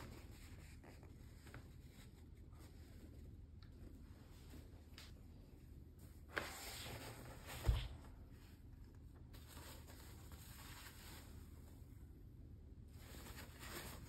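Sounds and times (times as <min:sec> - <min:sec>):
rustling and rubbing of vinyl: 0:00.0 - 0:12.1, 0:12.8 - 0:14.0.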